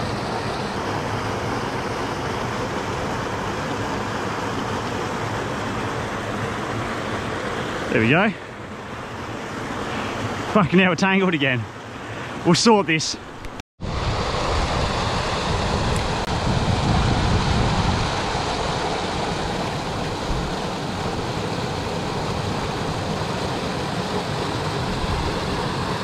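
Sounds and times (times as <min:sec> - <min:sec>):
waterfall rushing into pool: 0:00.0 - 0:13.0, 0:13.8 - 0:26.0.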